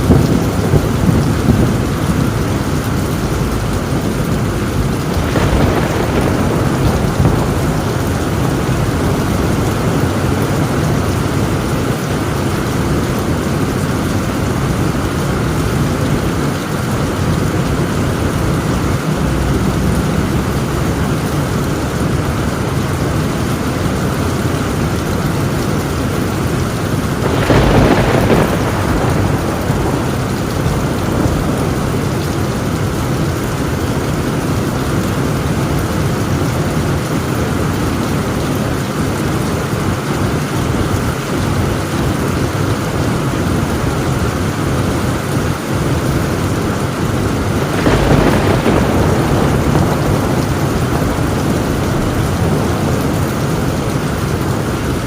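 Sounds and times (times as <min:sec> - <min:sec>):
heavy rain on a tin roof: 0:00.0 - 0:55.0
thunder rumbling: 0:00.0 - 0:55.0.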